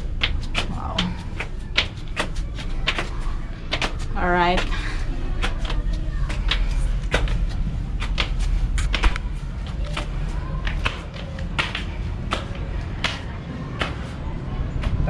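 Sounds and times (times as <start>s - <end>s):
footsteps climbing: 0.0s - 15.0s
steady low rumble: 0.0s - 15.0s.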